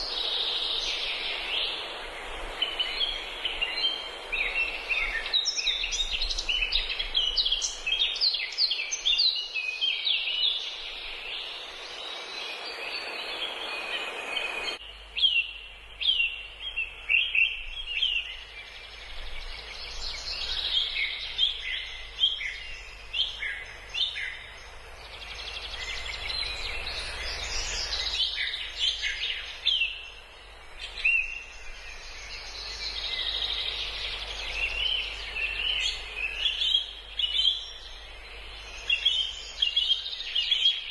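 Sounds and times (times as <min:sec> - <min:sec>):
small birds chirping: 0:00.0 - 0:40.9
steady background hiss: 0:00.0 - 0:40.9.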